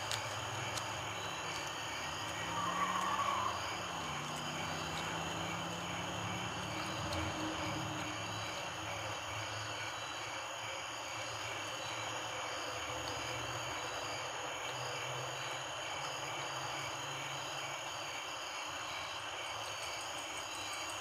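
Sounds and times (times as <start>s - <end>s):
crickets chirping: 0.0s - 21.0s
steady hiss: 0.0s - 21.0s.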